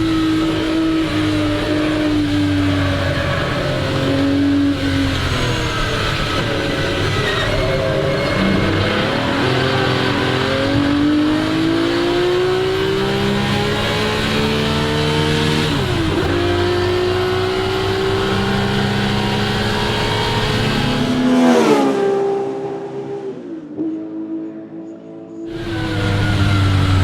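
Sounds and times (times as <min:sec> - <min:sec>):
car engine revving under full throttle: 0:00.0 - 0:24.6, 0:25.5 - 0:27.0.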